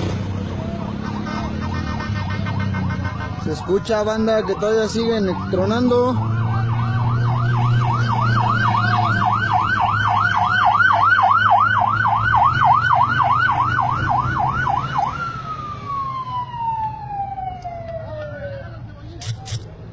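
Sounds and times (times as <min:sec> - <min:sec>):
emergency siren: 0:00.2 - 0:19.0.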